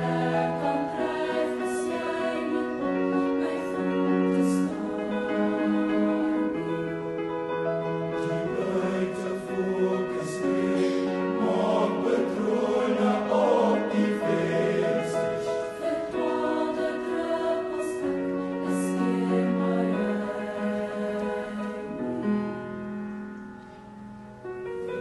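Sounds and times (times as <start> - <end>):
choir singing in harmony: 0.0 - 23.2.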